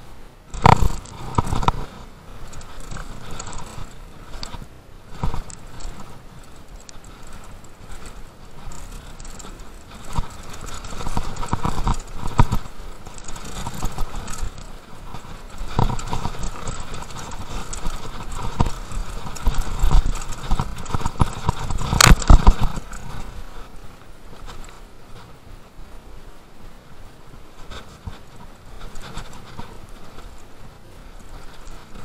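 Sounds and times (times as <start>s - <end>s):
mountain bike rattling and knocking: 0.5s - 25.3s, 27.6s - 32.0s.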